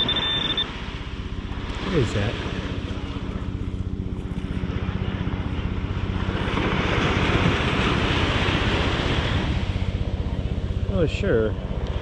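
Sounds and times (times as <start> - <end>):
rush of surf or wind: 0.0 - 3.6, 4.5 - 12.0
propeller airplane engine drone: 0.0 - 12.0.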